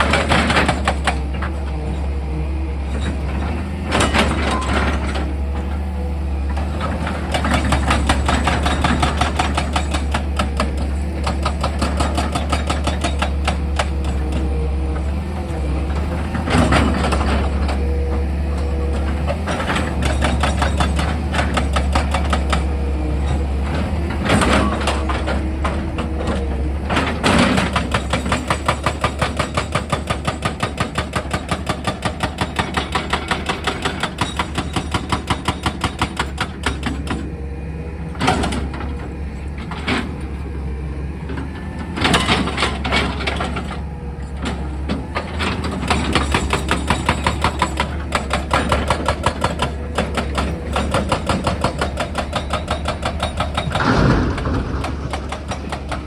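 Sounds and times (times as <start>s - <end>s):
excavator engine hum: 0.0s - 56.0s.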